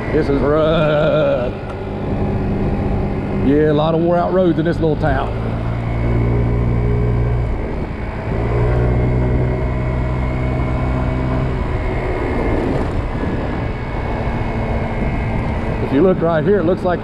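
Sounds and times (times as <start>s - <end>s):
scooter engine droning: 0.0s - 17.0s.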